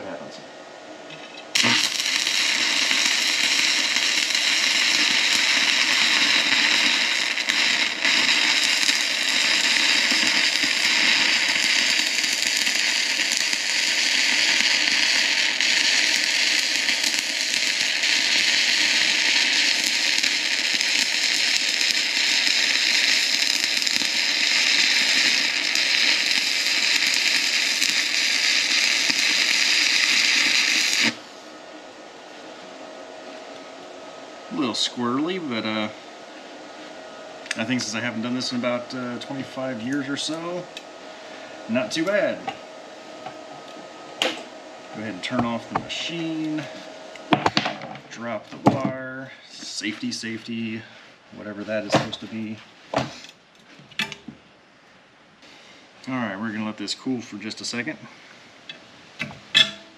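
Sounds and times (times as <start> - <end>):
welding arc crackling hiss: 1.2 - 31.6, 34.5 - 54.4, 55.4 - 59.9.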